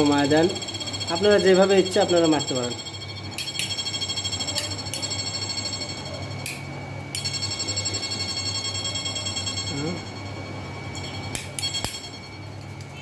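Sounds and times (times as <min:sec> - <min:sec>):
electric inverter pulsing buzz: 0:00.0 - 0:13.0
high-pitched whine: 0:00.0 - 0:13.0.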